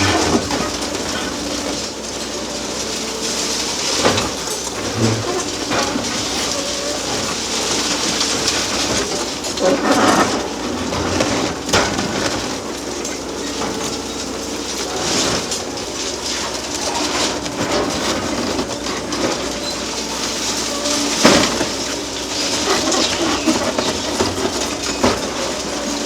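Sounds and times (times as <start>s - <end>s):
concrete and steel breaking: 0.0s - 26.0s
excavators running: 0.0s - 26.0s.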